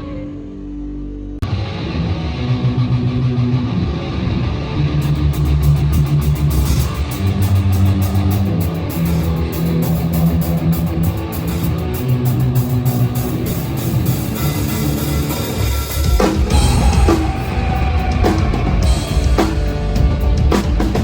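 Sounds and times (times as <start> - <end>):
electric guitar and bass: 0.0 - 21.0.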